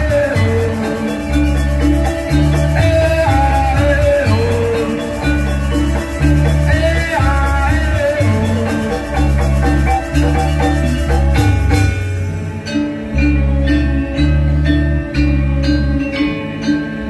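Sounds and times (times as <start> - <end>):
metal mallet percussion melody: 0.0 - 17.0.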